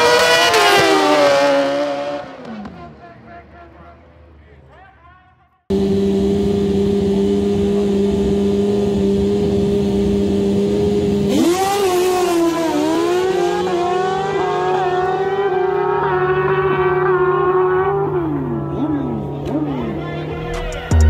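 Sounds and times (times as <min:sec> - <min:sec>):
drag-racing motorcycles revving: 0:00.0 - 0:03.2, 0:05.7 - 0:20.9.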